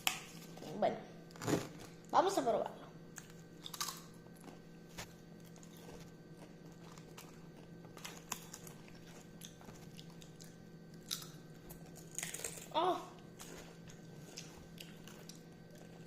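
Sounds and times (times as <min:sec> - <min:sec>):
chewing crisps: 0:03.1 - 0:16.0.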